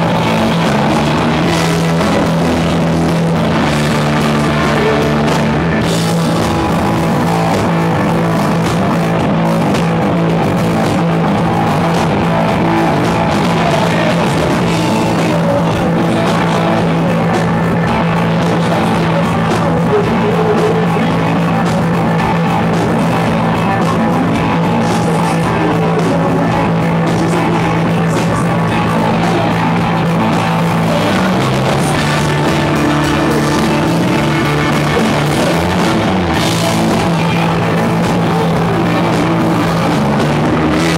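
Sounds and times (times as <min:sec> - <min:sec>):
man singing: 0:00.0 - 0:40.9
rock band playing: 0:00.0 - 0:40.9.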